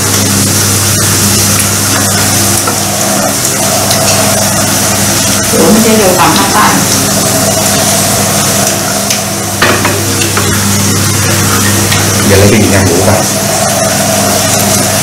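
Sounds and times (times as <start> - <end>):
electric hum with hiss: 0.0 - 15.0.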